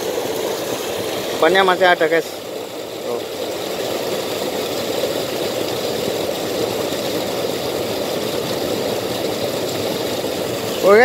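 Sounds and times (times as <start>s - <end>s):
water rushing over weir: 0.0s - 11.0s.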